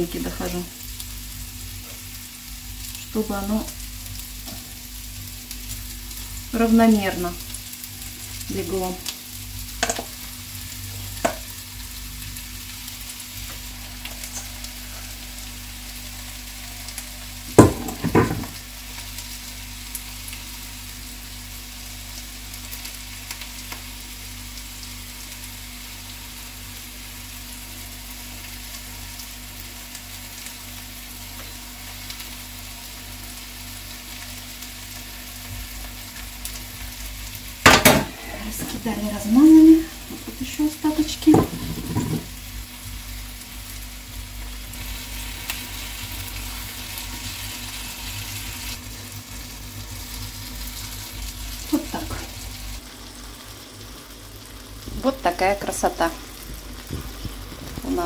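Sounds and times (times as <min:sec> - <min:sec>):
batter sizzling in a frying pan: 0:00.0 - 0:58.0.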